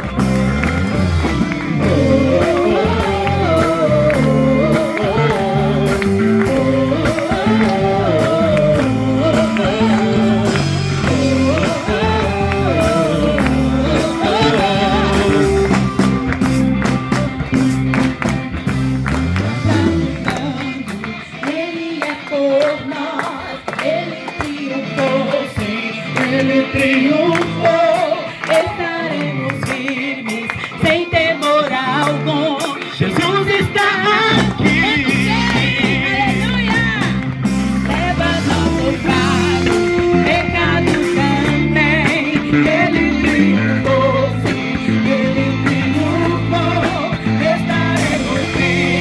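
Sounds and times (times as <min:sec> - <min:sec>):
gospel worship music: 0:00.0 - 0:49.0.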